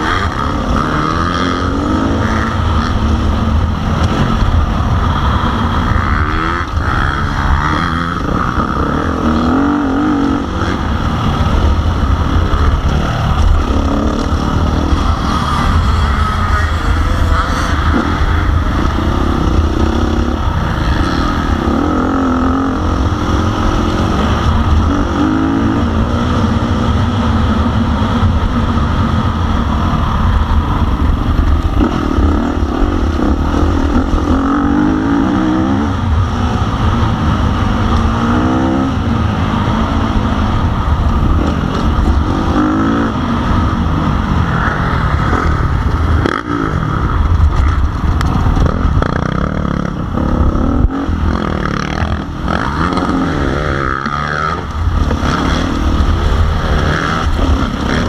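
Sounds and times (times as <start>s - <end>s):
motocross bike engine revving: 0.0s - 58.0s
wind rumble on microphone: 0.0s - 58.0s.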